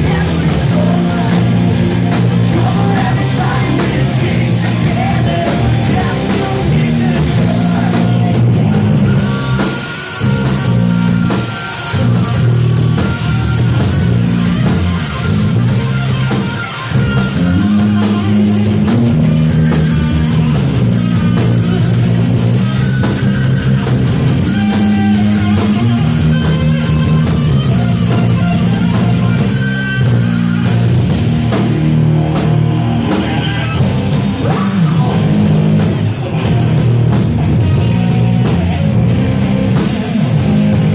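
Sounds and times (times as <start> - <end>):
bass line: 0.0 - 40.9
distorted electric guitar: 0.0 - 40.9
drum kit: 0.0 - 40.9.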